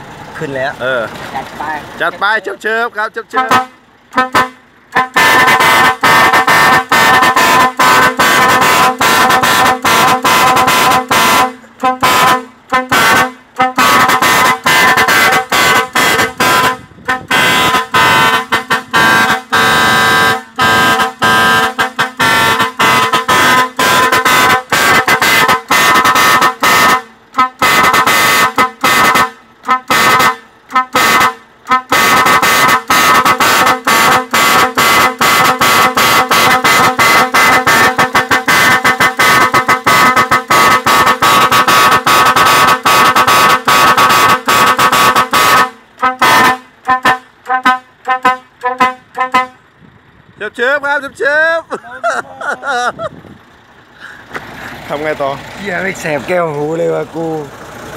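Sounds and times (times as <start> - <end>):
truck air horns blasting: 2.4 - 52.9.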